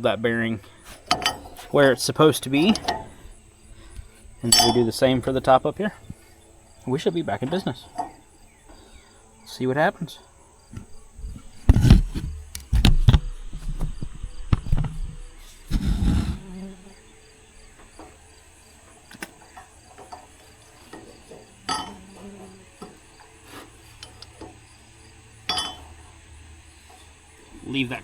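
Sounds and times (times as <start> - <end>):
insects chirring: 0.0 - 28.0
metal clanks and knocks: 0.6 - 28.0.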